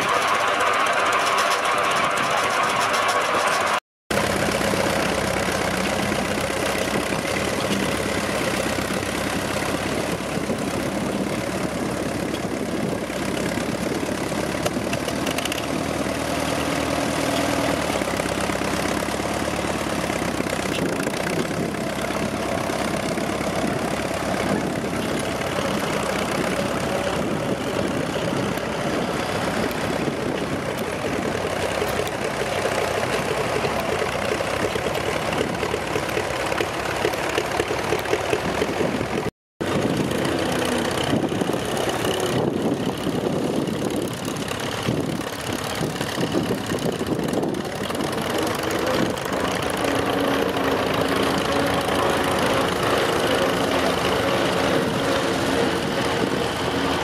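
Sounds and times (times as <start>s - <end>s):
tractor engine under load: 0.0s - 57.0s.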